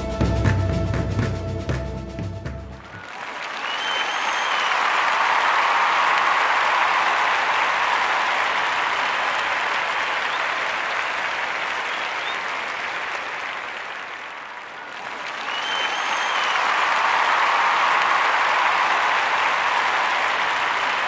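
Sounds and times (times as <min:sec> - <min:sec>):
crowd applauding: 0:02.8 - 0:21.0.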